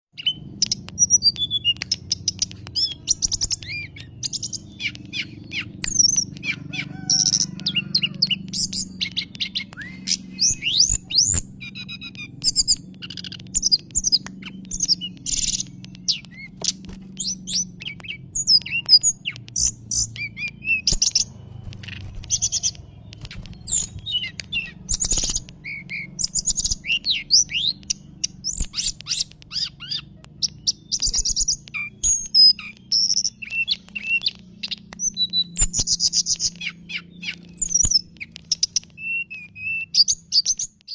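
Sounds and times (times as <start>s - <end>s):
bird singing whistles and chirps: 0.1s - 40.9s.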